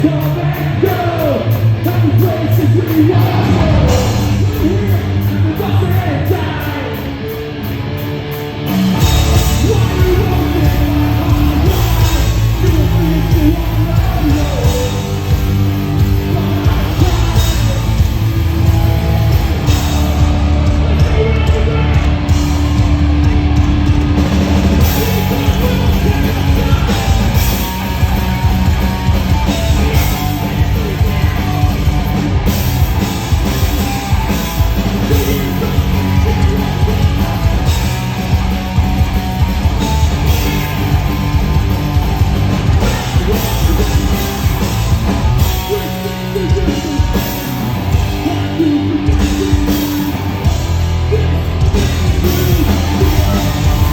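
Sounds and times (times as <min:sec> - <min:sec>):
distorted guitars: 0:00.0 - 0:53.9
drums: 0:00.0 - 0:53.9.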